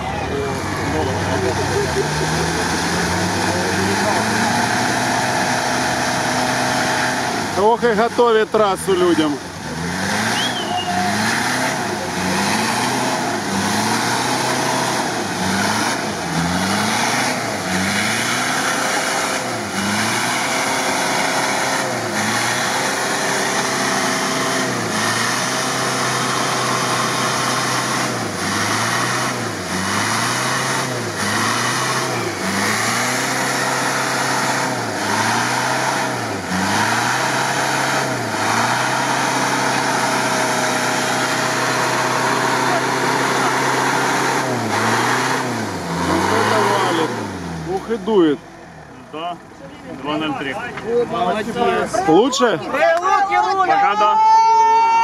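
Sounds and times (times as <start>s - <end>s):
truck engine revving: 0.0s - 53.8s.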